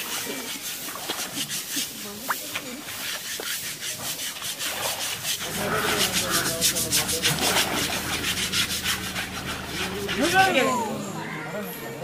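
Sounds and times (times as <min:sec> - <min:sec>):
rasping scrub strokes: 0:00.0 - 0:11.0.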